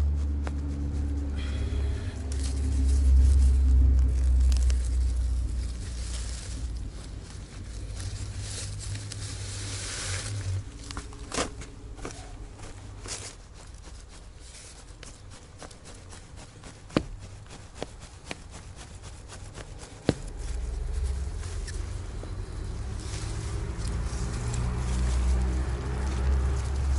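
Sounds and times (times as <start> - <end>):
soil and leaves crunching: 0.0 - 26.9.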